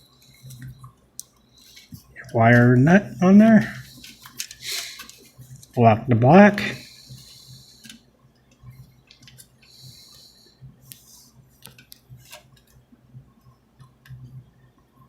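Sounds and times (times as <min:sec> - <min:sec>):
electrical wires clicking and scraping: 0:00.0 - 0:05.8, 0:07.0 - 0:14.4.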